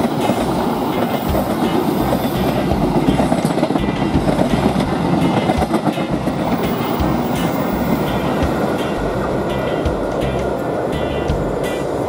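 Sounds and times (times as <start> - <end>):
train wheels rumbling on rails: 0.0 - 12.0
wheels clicking over rail joints: 0.0 - 12.0.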